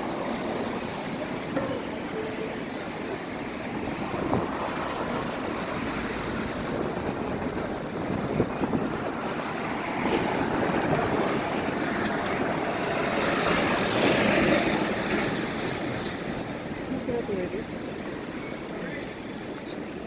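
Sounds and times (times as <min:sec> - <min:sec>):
city vehicle rumble: 0:00.0 - 0:20.0.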